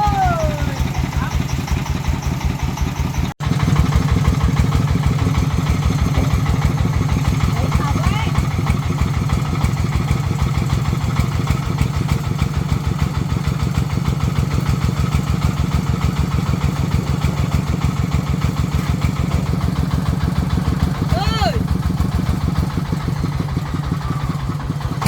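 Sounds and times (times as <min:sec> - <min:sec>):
diesel engine chugging: 0:00.0 - 0:25.0.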